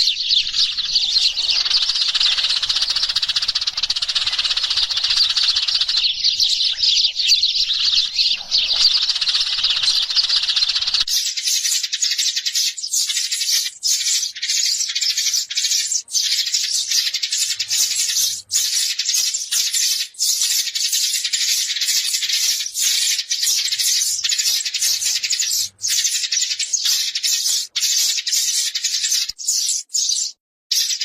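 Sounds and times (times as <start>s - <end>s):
sparrows chirping: 0.0s - 31.0s.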